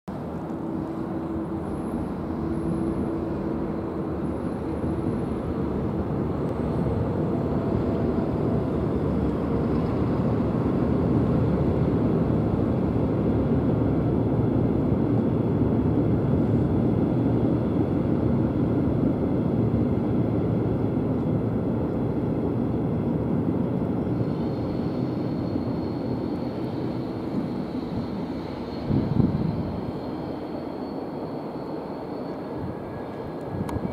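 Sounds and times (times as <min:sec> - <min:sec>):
train rumbling over steel bridge: 0:00.1 - 0:33.9.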